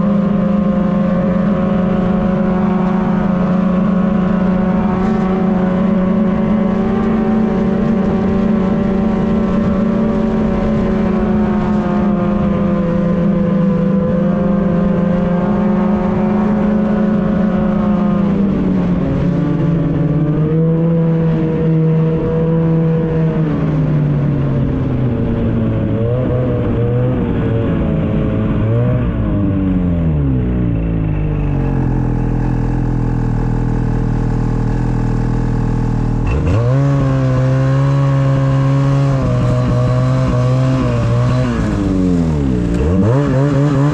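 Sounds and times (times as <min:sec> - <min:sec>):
snowmobile engine running: 0:00.0 - 0:43.9.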